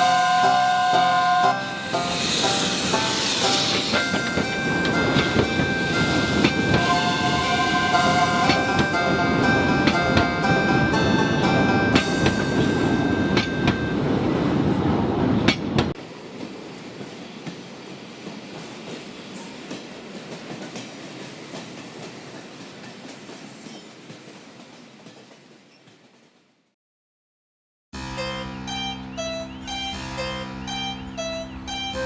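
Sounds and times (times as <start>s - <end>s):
train rumbling on rails: 0.0s - 26.8s.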